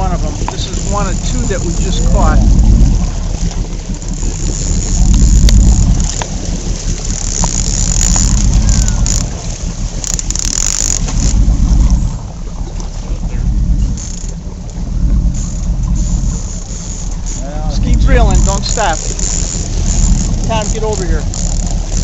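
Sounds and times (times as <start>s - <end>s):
boat engine running: 0.0s - 22.0s
wind on microphone: 0.0s - 22.0s.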